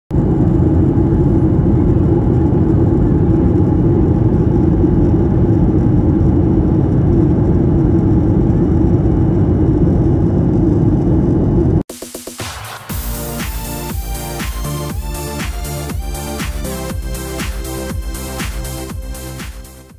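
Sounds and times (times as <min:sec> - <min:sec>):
jet engine drone: 0:00.1 - 0:19.9.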